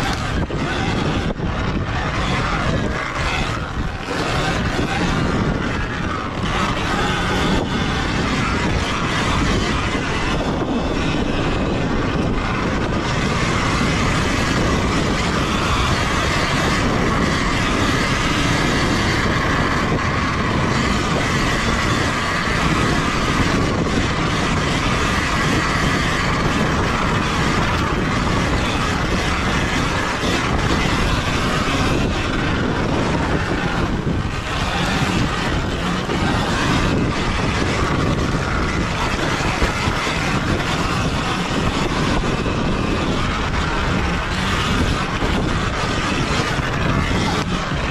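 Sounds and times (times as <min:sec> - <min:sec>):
electric motor running: 0:00.0 - 0:47.9
wind noise on microphone: 0:00.0 - 0:47.9.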